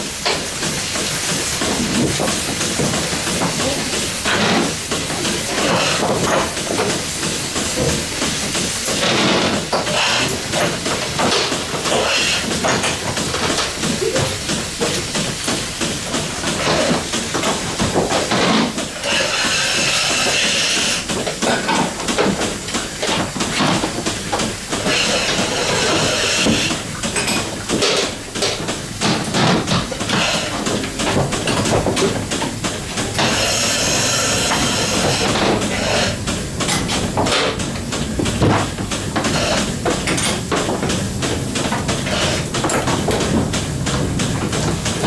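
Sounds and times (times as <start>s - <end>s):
milking machinery clanking: 0.0s - 45.0s.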